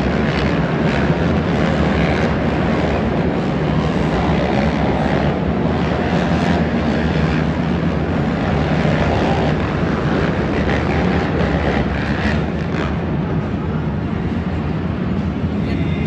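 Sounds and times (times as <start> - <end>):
quad engines droning: 0.0 - 16.0.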